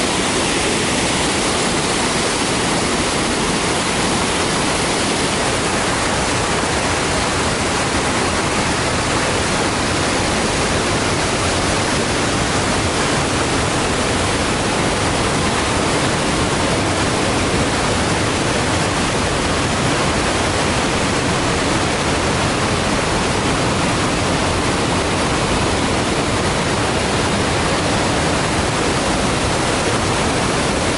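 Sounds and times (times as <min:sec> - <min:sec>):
water rushing down spillway: 0:00.0 - 0:30.9.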